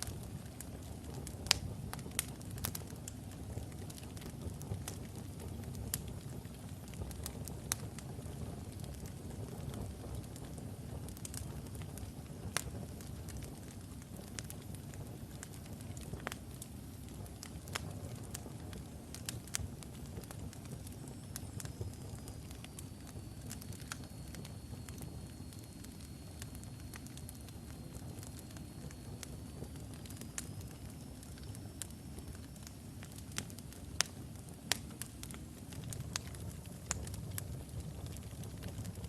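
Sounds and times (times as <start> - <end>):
logs burning and crackling: 0.0 - 39.0.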